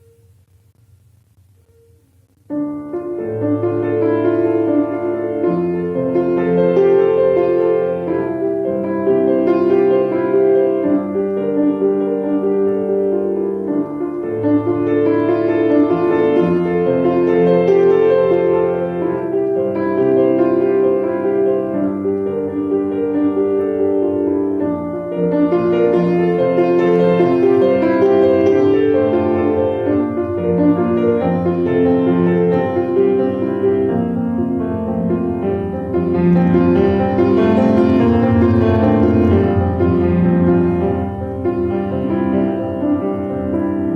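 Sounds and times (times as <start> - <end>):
solo piano piece: 0.0 - 43.9.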